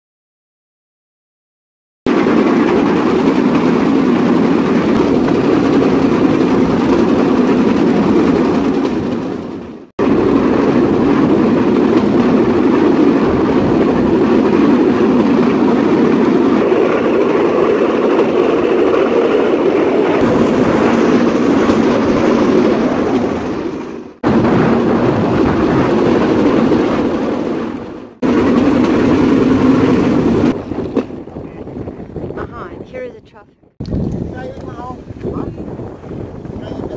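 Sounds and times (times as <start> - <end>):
wheel and rail noise: 2.1 - 32.0
wind: 2.1 - 36.9.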